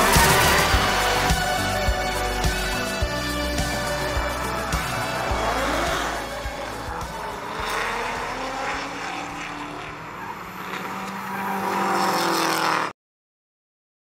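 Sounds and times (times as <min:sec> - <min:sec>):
car engines revving: 0:00.0 - 0:12.9.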